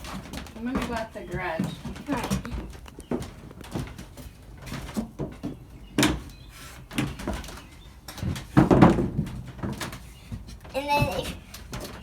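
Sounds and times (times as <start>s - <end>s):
knocks and bumps in playhouse: 0.0s - 12.0s.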